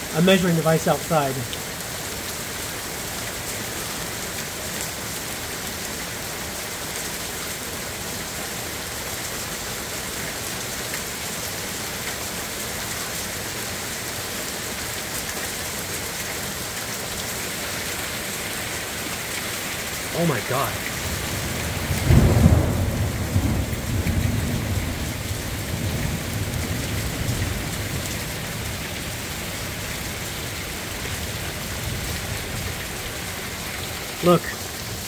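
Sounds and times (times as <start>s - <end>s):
heavy rain and hail: 0.0s - 35.0s.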